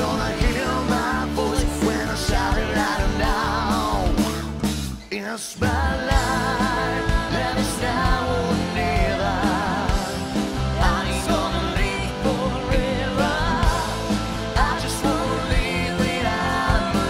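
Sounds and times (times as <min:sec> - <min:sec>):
person singing with vibrato: 0:00.0 - 0:04.4, 0:05.0 - 0:17.0
live rock band playing: 0:00.0 - 0:17.0.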